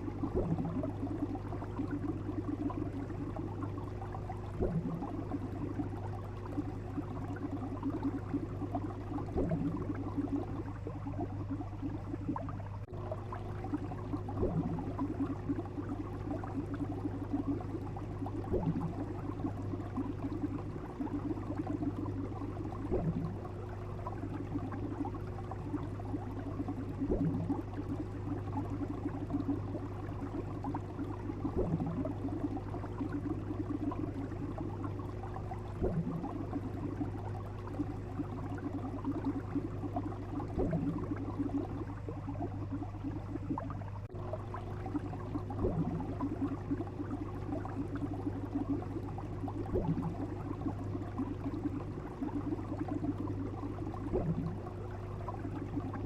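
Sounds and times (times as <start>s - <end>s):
constant low hum: 0.0s - 56.0s
water bubbling and gurgling: 0.0s - 56.0s.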